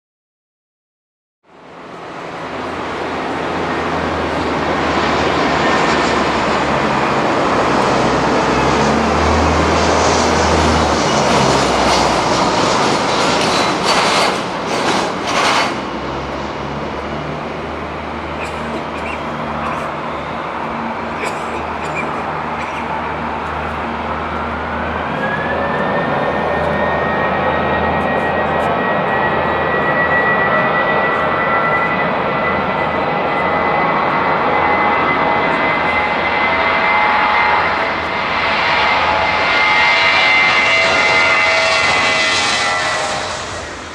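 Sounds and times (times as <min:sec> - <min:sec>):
high engine whine: 0:01.8 - 0:43.9
jet engines roaring: 0:01.8 - 0:43.9.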